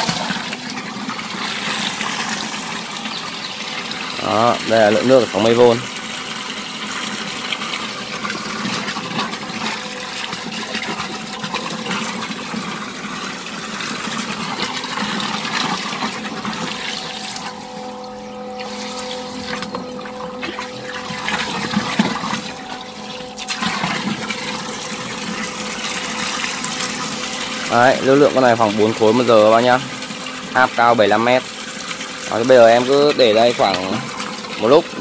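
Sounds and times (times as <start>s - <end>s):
water jetting and splashing: 0.0s - 35.0s.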